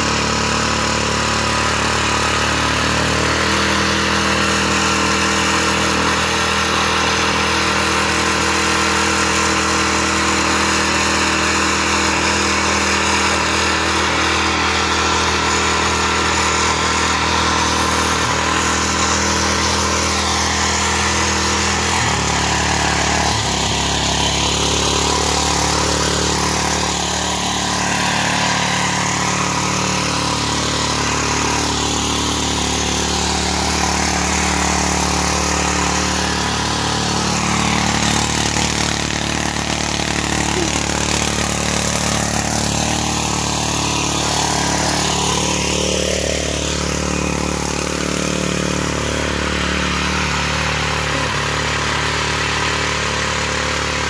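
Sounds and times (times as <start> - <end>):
tiller churning soil: 0.0 - 54.0
tiller engine running: 0.0 - 54.0.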